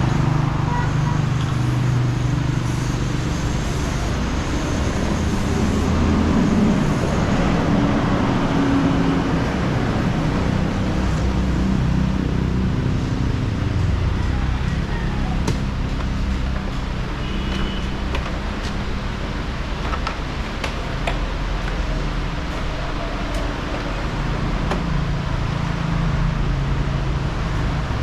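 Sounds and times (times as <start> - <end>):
passing vehicle engines: 0.0 - 28.0.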